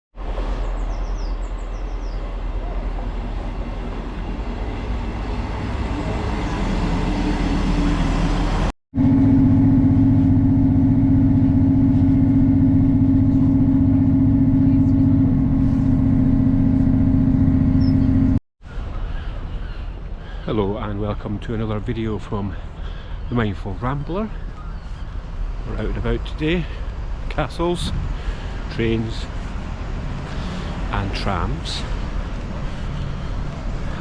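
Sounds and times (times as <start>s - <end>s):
vehicle engine rumbling: 0.2s - 34.0s
steady engine drone: 2.2s - 34.0s.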